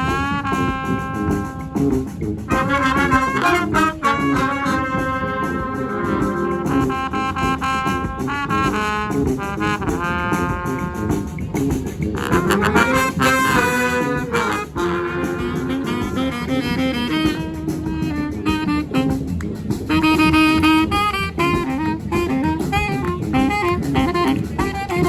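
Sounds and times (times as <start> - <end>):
brass band playing: 0.0 - 25.0
drums: 0.0 - 25.0.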